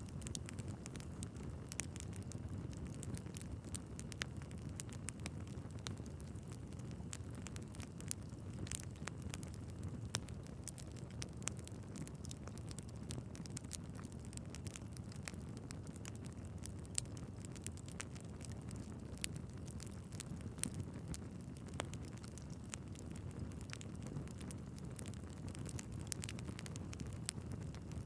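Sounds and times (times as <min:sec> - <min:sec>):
fire flames rumbling: 0:00.0 - 0:28.0
logs crackling and popping: 0:00.0 - 0:28.0.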